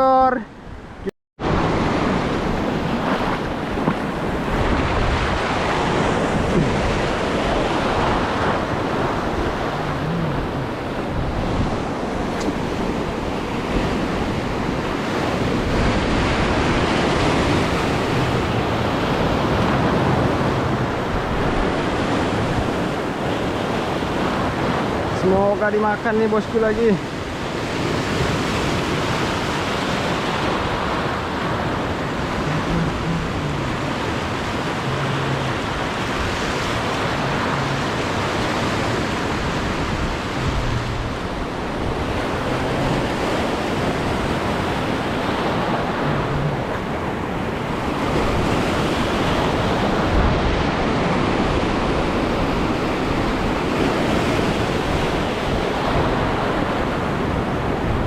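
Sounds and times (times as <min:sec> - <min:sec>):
surf washing over reef: 0:00.0 - 0:58.0
wind buffeting microphone: 0:00.7 - 0:25.2, 0:27.0 - 0:58.0.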